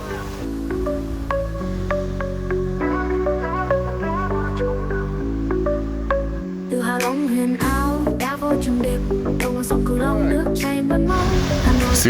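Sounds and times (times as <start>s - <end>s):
background music melody: 0.0s - 12.0s.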